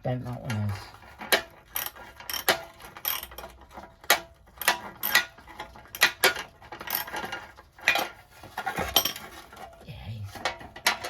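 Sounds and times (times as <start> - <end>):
metal tool clicks and clanks: 1.2 - 9.7, 10.4 - 11.0.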